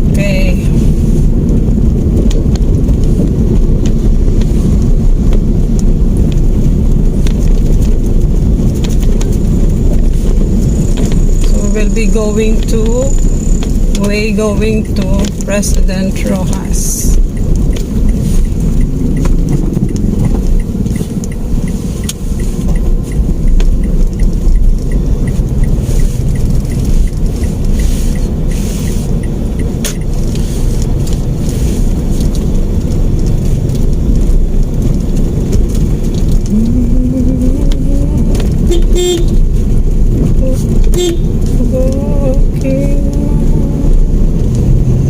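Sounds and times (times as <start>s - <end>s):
car engine and road rumble: 0.0s - 45.0s
light regular ticking: 0.0s - 45.0s.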